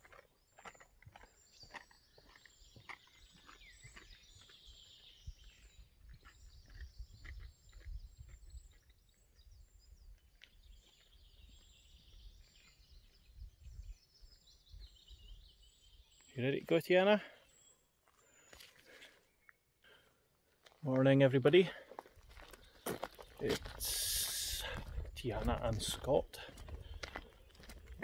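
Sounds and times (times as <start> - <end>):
soft footsteps on path: 0.0 - 16.4, 17.2 - 28.0
birds chirping and trilling: 0.0 - 20.2, 20.8 - 28.0.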